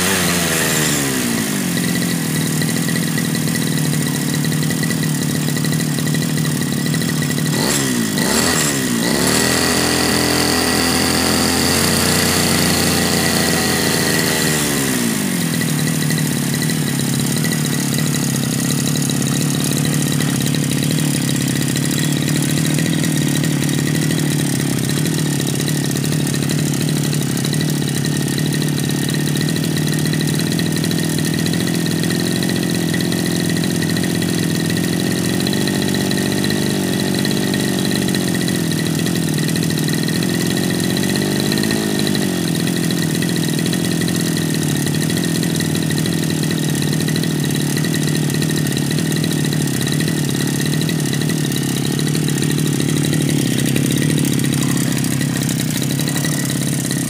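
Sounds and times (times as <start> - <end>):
brush cutter engine idling: 0.0 - 57.0
engine revving with a whine: 0.0 - 57.0.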